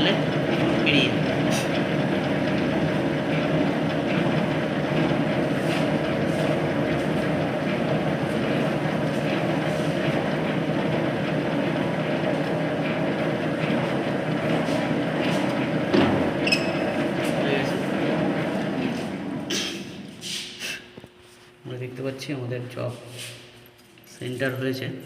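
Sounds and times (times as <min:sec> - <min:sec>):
metal lathe humming: 0:00.0 - 0:20.4.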